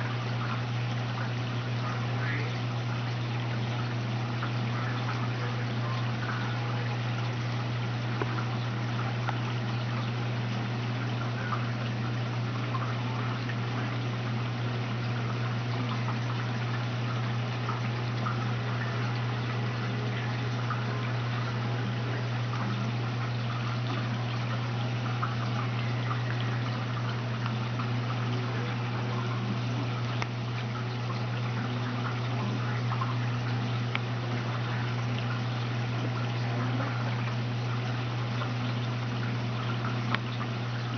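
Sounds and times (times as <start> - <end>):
aquarium filter hum: 0.0 - 40.9
water trickling and splashing: 0.0 - 40.9.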